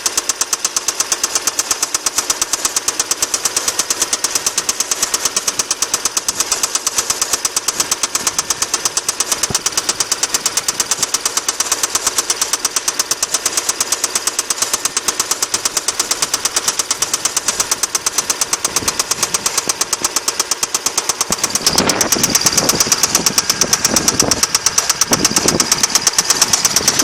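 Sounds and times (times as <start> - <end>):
engine running: 0.0 - 27.0
rapid metallic ticking: 0.0 - 27.0.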